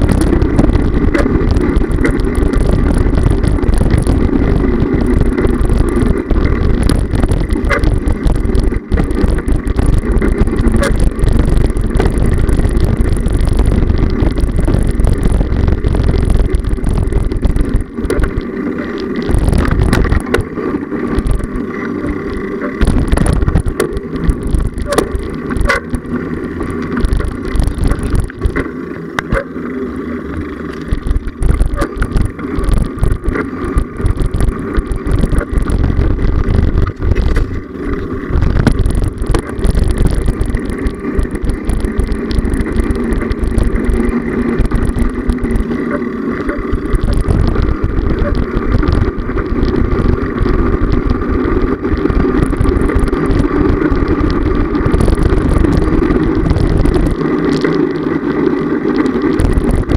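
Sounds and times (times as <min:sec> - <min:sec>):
bike knocks and rattles: 0:00.0 - 0:29.5, 0:30.8 - 0:57.9
road vibration rumble: 0:00.0 - 0:59.9
wind: 0:00.0 - 0:59.9.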